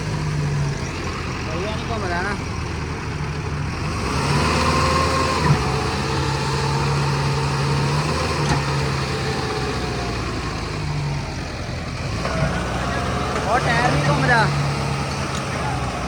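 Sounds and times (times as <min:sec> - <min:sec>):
tractor engine straining: 0:00.0 - 0:16.0.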